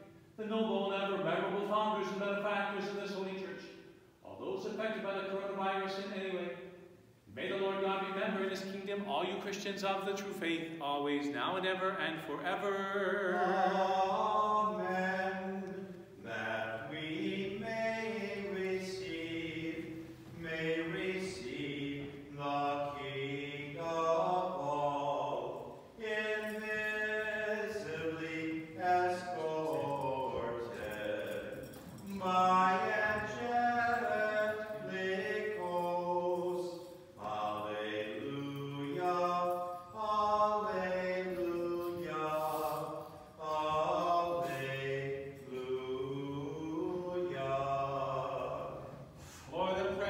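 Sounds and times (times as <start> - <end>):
unaccompanied liturgical chant: 0.0 - 50.0.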